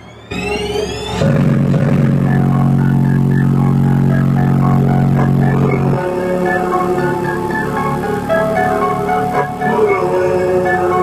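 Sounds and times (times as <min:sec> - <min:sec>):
heavy bass notes: 0:00.0 - 0:11.0
higher melody notes: 0:00.0 - 0:11.0
hip-hop music through car speakers: 0:00.9 - 0:11.0.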